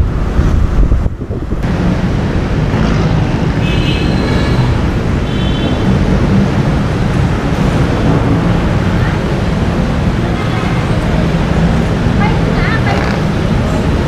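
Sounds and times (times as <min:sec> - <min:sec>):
motorcycle engine and road rumble: 0:00.0 - 0:14.0
wind buffeting microphone: 0:00.0 - 0:14.0.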